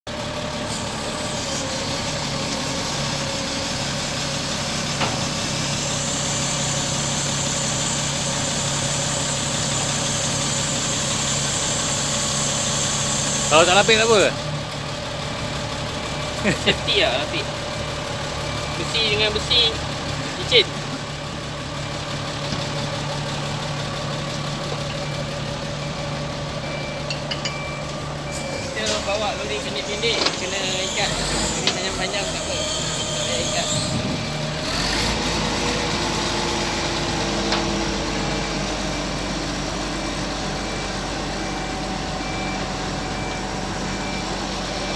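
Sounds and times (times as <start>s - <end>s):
diesel engine idling: 0.1s - 44.9s.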